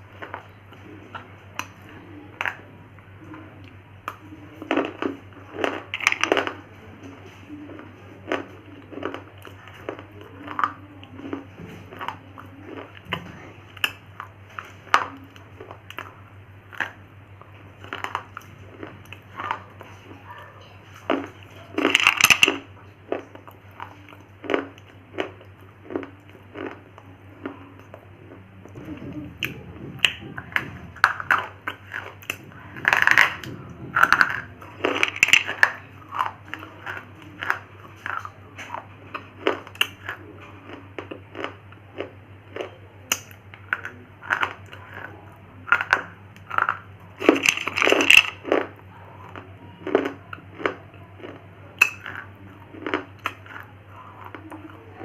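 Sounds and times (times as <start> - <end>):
faint steady hum: 0.0 - 55.0
crunching of brittle chalky snack: 3.6 - 55.0.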